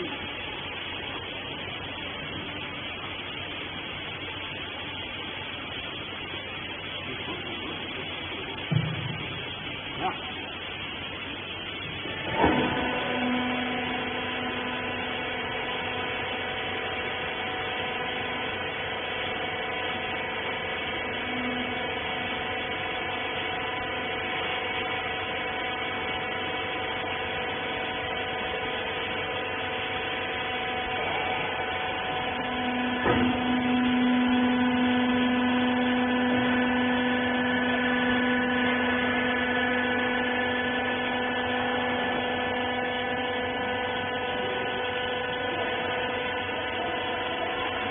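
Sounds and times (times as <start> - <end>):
hydraulic power unit whining: 0.0 - 47.9.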